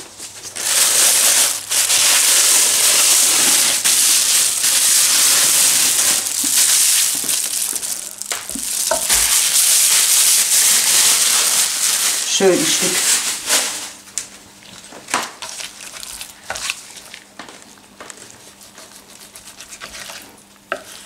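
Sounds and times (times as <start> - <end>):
plastic bag rustling and crinkling: 0.2 - 18.7.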